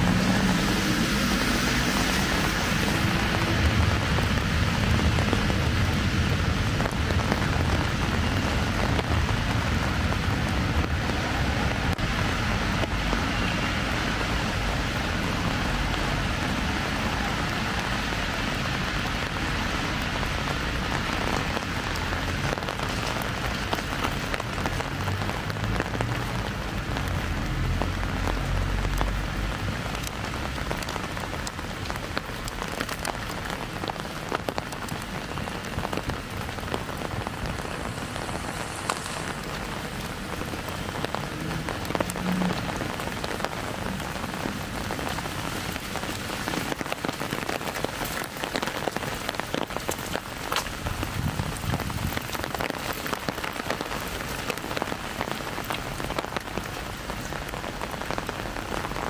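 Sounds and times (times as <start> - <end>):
rain on umbrella and pavement: 0.0 - 59.0
road traffic rumble: 0.0 - 59.0.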